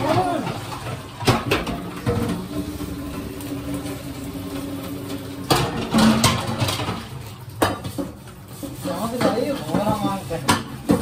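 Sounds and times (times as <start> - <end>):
utensils and pans clattering: 0.0 - 11.0.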